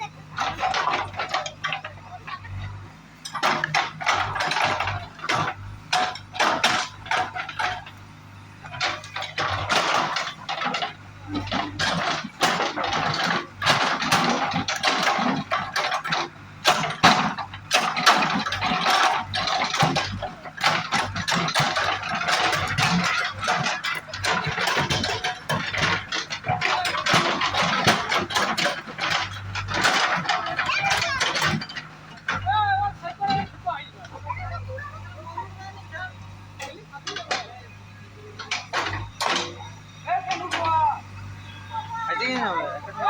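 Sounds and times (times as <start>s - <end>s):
diesel engine running: 0.0s - 43.0s
sharp clatters and knocks: 0.0s - 43.0s.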